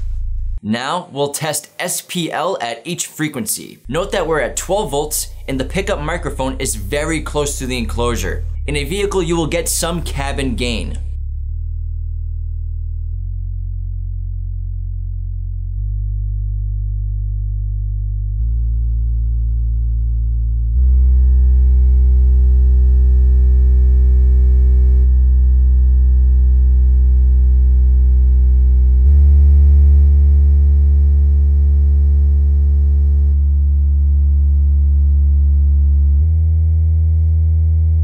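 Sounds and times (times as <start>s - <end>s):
subwoofer bass test tones: 0.0s - 0.6s, 3.8s - 38.0s.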